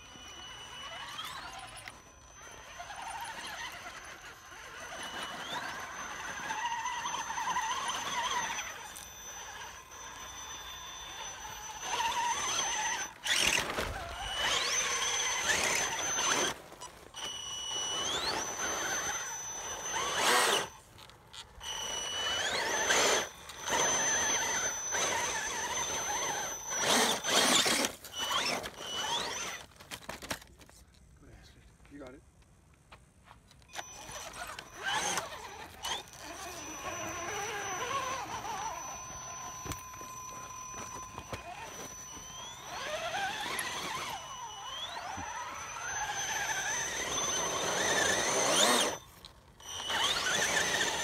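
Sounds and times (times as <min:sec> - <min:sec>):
electric motor whining: 0:00.0 - 0:30.4, 0:33.7 - 0:51.0
tyres scrabbling in loose dirt: 0:00.2 - 0:10.3, 0:11.1 - 0:31.0, 0:33.2 - 0:51.0.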